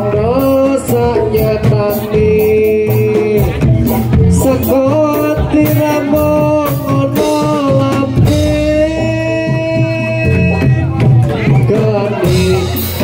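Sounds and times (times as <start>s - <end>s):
drums beating: 0.0s - 13.0s
long held melody line: 0.0s - 13.0s.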